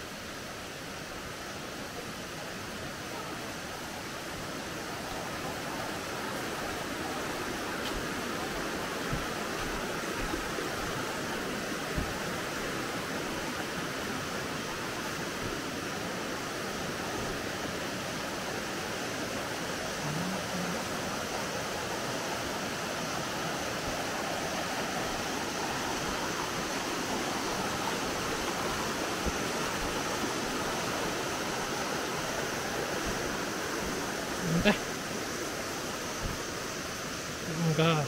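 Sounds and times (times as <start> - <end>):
stream rushing over stones: 0.0 - 38.0.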